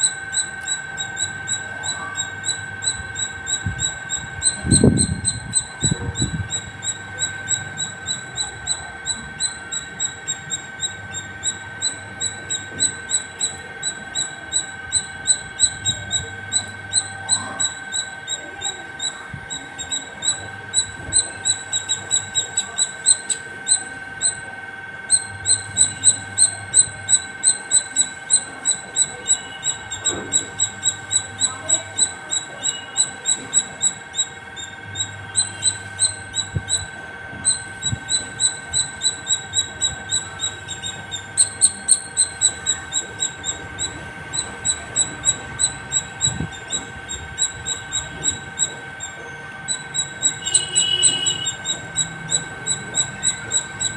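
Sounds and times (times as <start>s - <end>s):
squirrel chirping: 0.0s - 53.9s.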